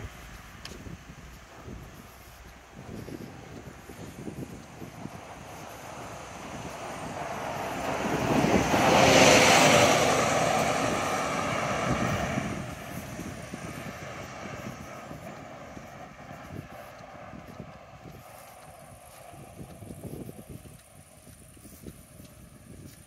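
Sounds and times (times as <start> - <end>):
vehicle passing by: 0.0 - 22.9.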